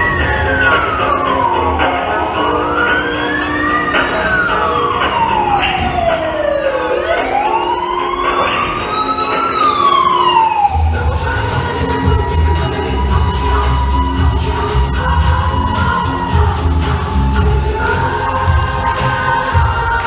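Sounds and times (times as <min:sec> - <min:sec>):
dance music beat: 0:00.0 - 0:06.7, 0:08.0 - 0:20.0
wailing siren: 0:00.0 - 0:19.9.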